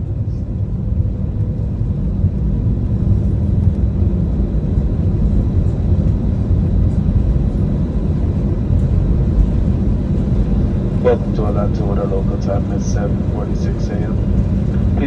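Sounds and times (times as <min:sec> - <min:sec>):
airliner cabin rumble while taxiing: 0:00.0 - 0:15.0.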